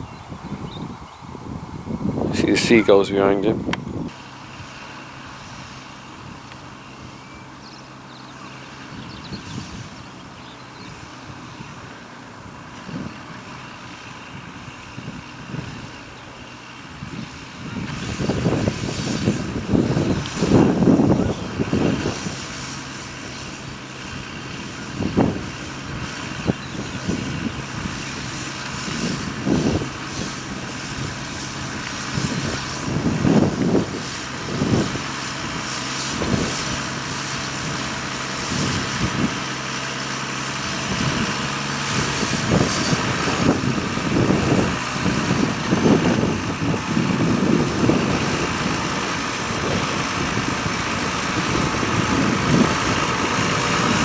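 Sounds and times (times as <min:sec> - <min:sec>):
low buffeting bursts: 0:00.0 - 0:54.0
tractor engine running: 0:00.0 - 0:54.0.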